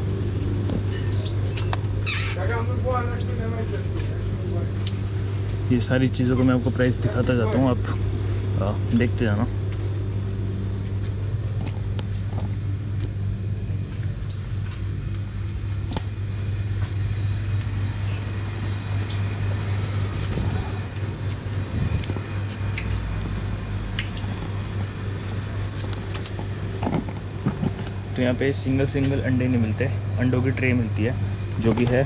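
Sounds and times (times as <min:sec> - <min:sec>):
low machinery hum: 0:00.0 - 0:32.0.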